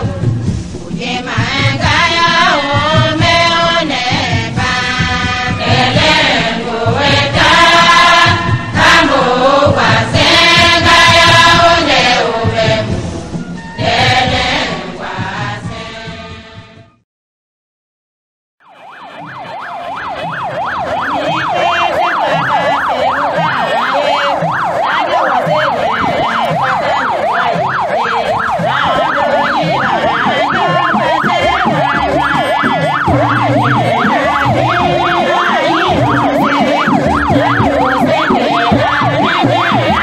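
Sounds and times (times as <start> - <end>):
electronic yelp siren: 1.2 - 12.6, 18.6 - 40.0.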